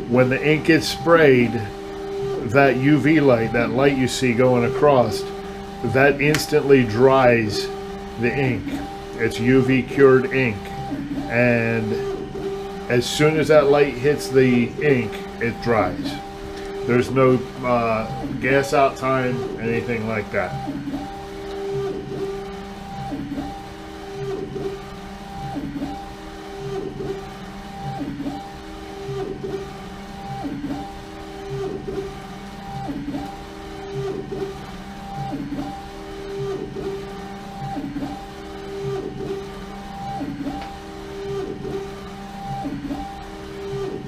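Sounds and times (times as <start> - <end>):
printer motor whine: 0.0 - 44.0.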